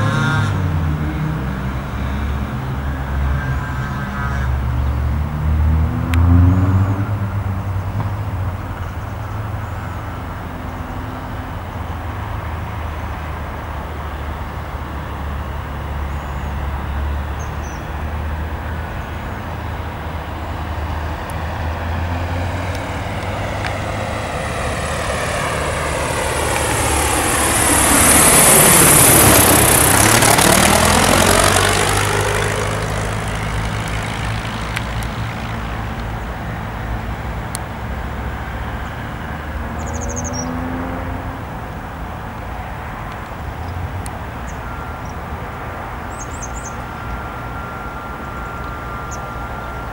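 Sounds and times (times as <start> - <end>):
propeller plane flying past: 0.0 - 49.9.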